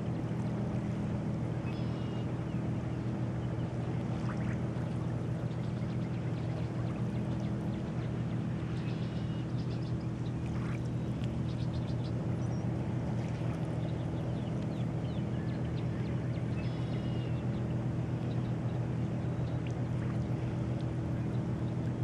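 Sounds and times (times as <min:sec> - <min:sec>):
low motor drone: 0:00.0 - 0:22.0
birds chirping: 0:01.6 - 0:22.0.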